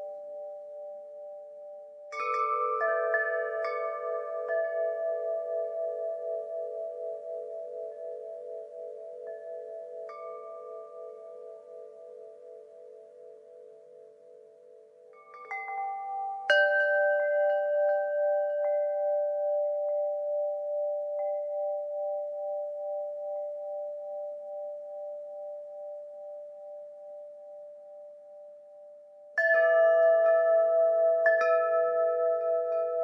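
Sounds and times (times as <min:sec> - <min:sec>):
metal wind chimes ringing: 0:02.1 - 0:28.1, 0:29.4 - 0:33.0.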